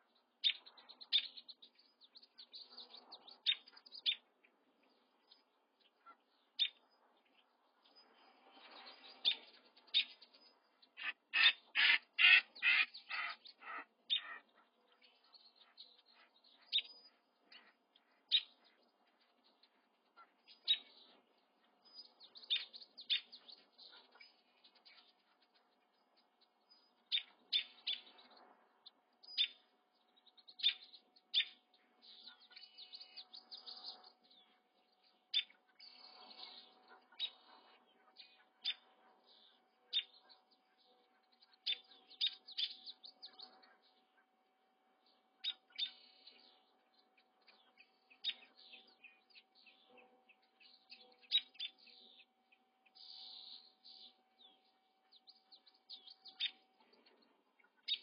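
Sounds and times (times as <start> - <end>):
birds chirping: 0.0 - 58.0
faint steady hum: 0.0 - 58.0.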